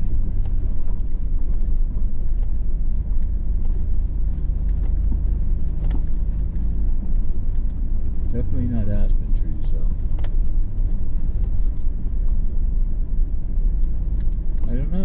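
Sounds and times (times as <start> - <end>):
engine rumbling inside cabin: 0.0 - 15.0.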